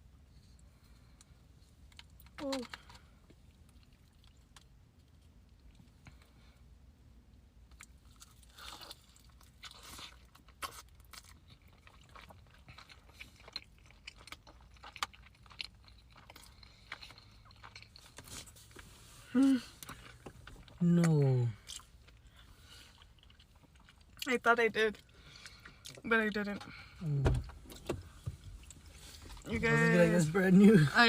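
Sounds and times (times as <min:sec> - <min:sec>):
chewing and crunching: 0:00.1 - 0:06.7, 0:07.6 - 0:31.0.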